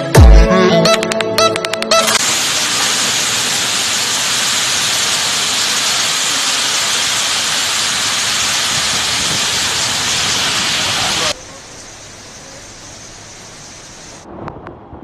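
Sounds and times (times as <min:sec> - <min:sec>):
heavy rain on foliage: 0:02.2 - 0:14.3.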